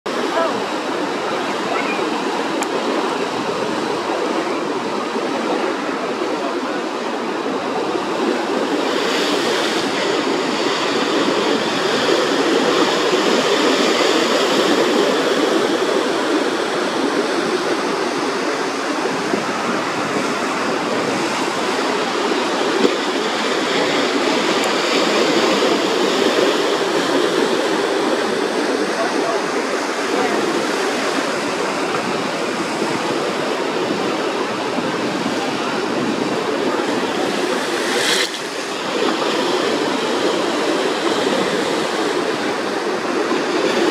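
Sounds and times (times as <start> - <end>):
steady rushing noise: 0.1 - 43.9.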